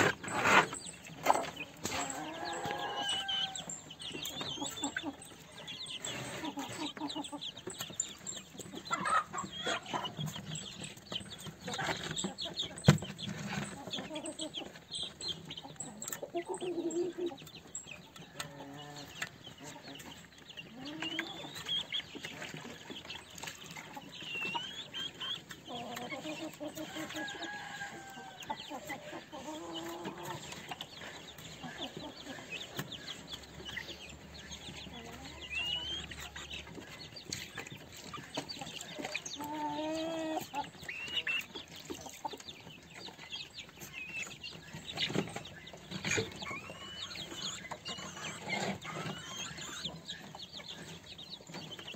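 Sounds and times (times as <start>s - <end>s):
beaks pecking at feed in a bowl: 0.0s - 51.9s
chickens clucking and peeping: 0.0s - 51.9s.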